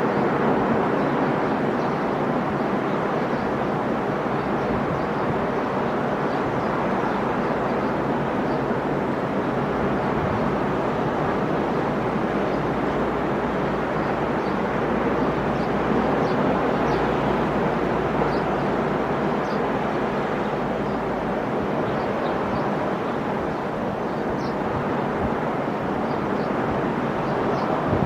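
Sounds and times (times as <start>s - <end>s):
ocean waves breaking on beach: 0.0s - 28.0s.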